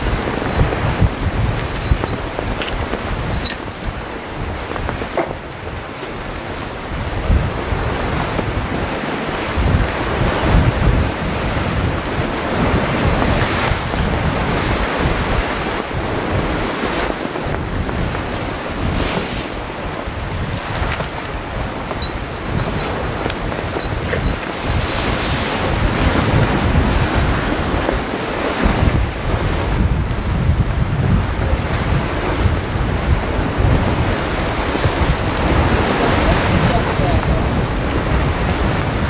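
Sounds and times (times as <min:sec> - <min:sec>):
surf breaking on rocks: 0:00.0 - 0:39.0
wind rumbling on microphone: 0:00.0 - 0:39.0.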